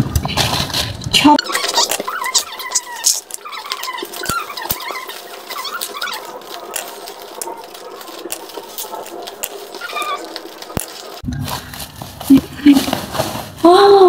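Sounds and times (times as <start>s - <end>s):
plastic squeaking: 0.0s - 13.7s.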